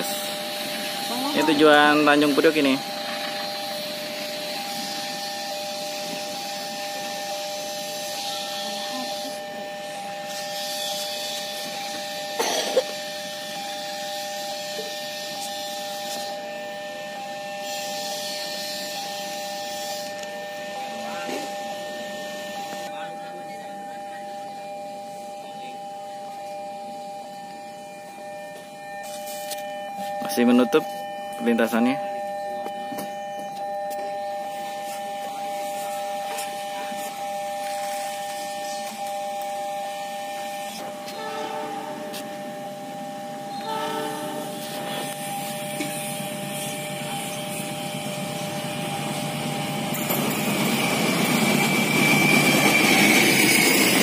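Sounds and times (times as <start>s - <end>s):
level crossing warning alarm: 0.0s - 54.0s.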